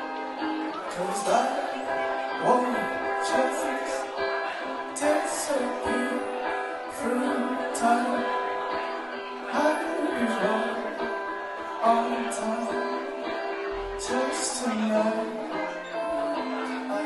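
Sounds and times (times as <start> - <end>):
electric guitars: 0.0 - 17.0
keyboard: 0.0 - 17.0.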